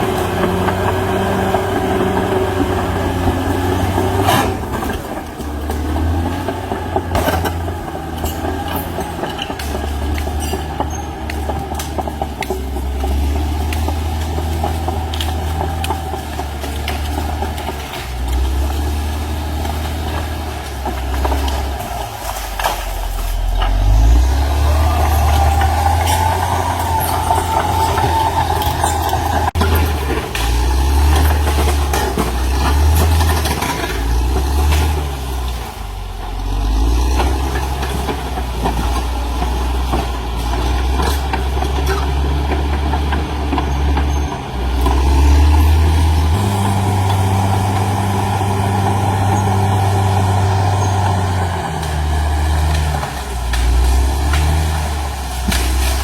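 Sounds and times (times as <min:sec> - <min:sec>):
bulldozer diesel engine: 0:00.0 - 0:56.0
knocks and clanks: 0:00.0 - 0:56.0.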